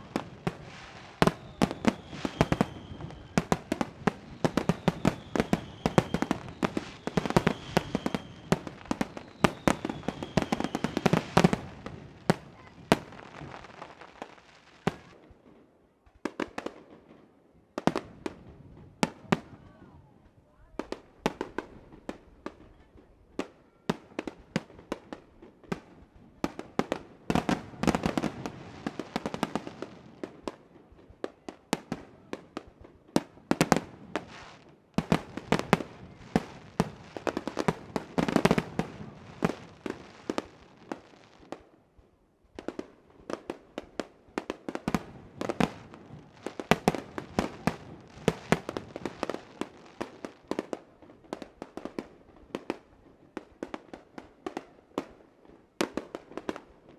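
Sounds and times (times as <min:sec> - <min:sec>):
fireworks bursting: 0:00.0 - 0:15.3, 0:20.8 - 0:41.7, 0:42.5 - 0:55.2.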